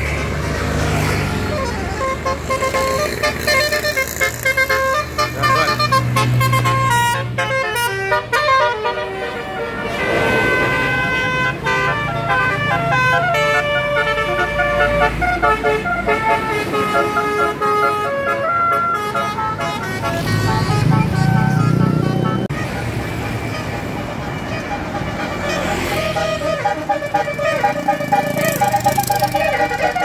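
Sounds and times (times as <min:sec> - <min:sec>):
bus diesel engine rumble: 0:00.0 - 0:30.0
multi-tone air horn melodies: 0:01.5 - 0:30.0.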